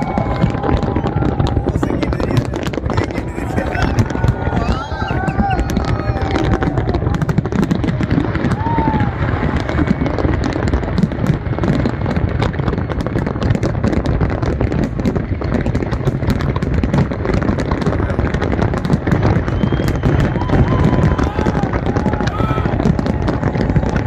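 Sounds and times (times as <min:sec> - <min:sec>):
dense low rumble: 0:00.0 - 0:24.0
fireworks cracking and popping: 0:00.0 - 0:24.0.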